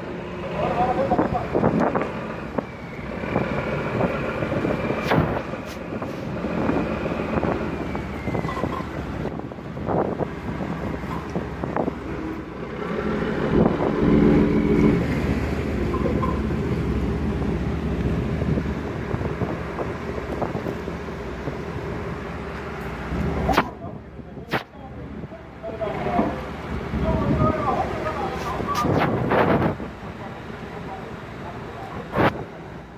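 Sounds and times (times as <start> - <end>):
boat engines running: 0.0 - 32.9
propeller wash churning water: 0.0 - 32.9
wind buffeting microphone: 0.6 - 31.0, 31.6 - 32.9.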